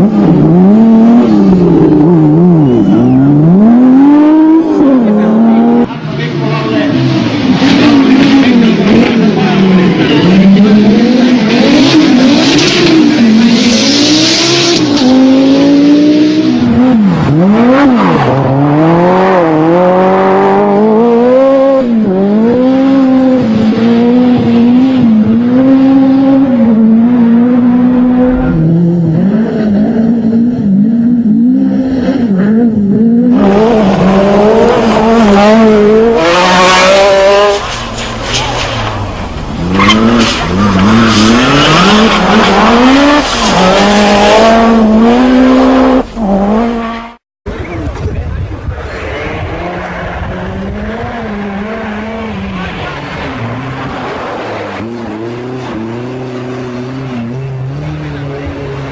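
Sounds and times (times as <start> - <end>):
rally car engine revving: 0.0 - 58.9.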